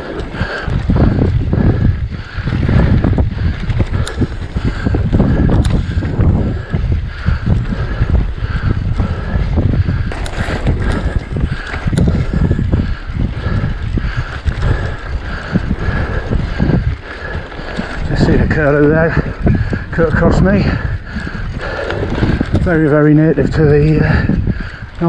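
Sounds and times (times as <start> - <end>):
mountain bike rumbling and rattling: 0.0 - 25.0
wind buffeting microphone: 0.0 - 25.0.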